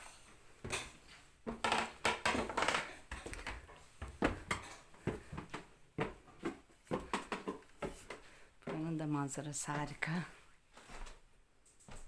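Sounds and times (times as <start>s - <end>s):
footsteps on floor: 0.6s - 10.1s, 10.7s - 11.2s, 11.8s - 12.0s.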